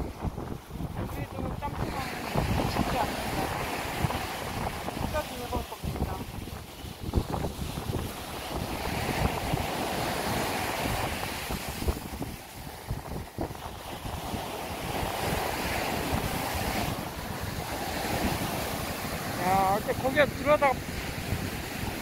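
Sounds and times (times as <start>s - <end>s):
sea surf breaking on a beach: 0.0s - 22.0s
wind buffeting the microphone: 0.0s - 22.0s.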